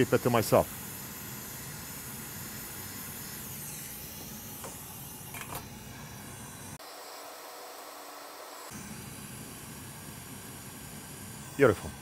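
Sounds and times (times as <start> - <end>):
hot air station hissing: 0.0 - 12.0.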